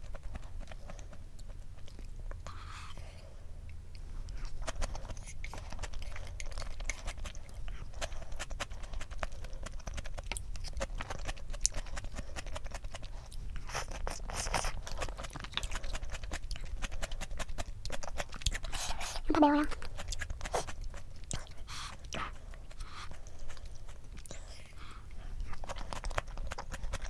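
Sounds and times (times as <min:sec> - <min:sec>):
person chewing crunchy food: 0:00.0 - 0:27.0.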